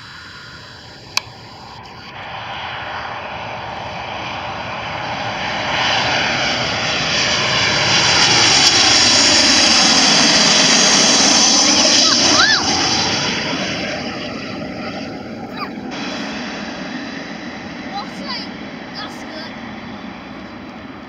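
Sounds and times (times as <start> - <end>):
jet airliner engine roar: 0.0 - 21.0.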